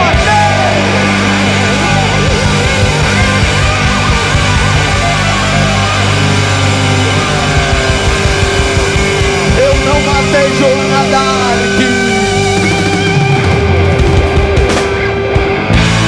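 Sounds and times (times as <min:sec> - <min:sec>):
live rock band playing: 0:00.0 - 0:16.0
loud electric guitars: 0:00.0 - 0:16.0.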